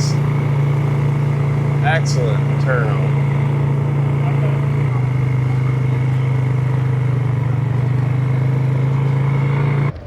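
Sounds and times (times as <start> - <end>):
vehicle motor droning: 0.0 - 10.0.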